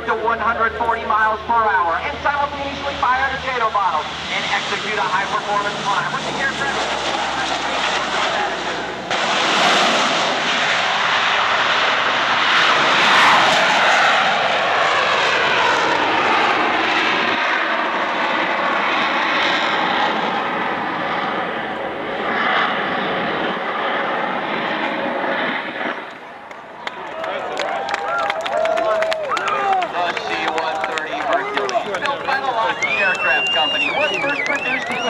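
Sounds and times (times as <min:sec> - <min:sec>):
aircraft engines and rockets roaring: 0:00.0 - 0:35.0.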